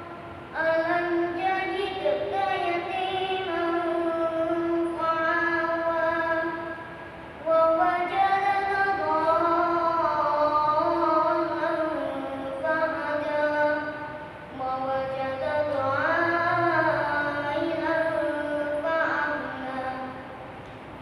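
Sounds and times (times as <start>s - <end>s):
boy chanting recitation: 0.0s - 20.5s.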